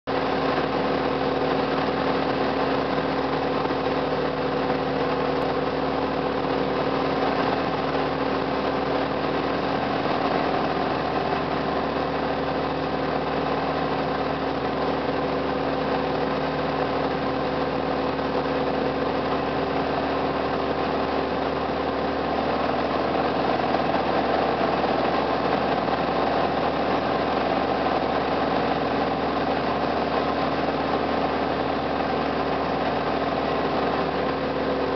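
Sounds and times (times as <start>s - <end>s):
airplane engine and propeller drone: 0.1s - 34.9s.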